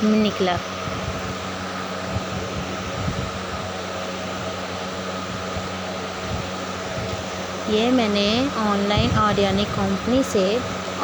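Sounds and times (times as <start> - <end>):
fan whirring and hissing: 0.0 - 11.0.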